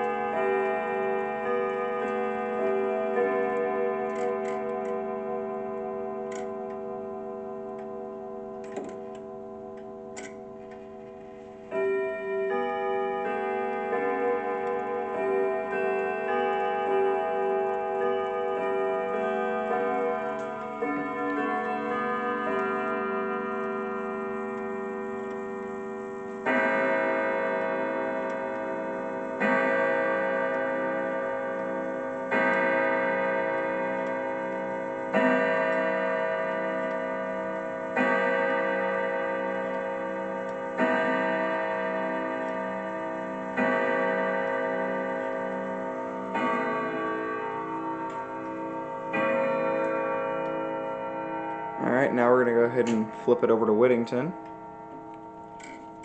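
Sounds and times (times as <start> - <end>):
clock striking on chime rods: 0.0 - 56.0.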